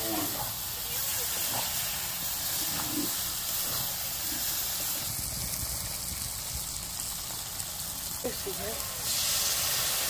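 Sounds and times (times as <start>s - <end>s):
chicken frying with steady hiss: 0.0s - 10.0s.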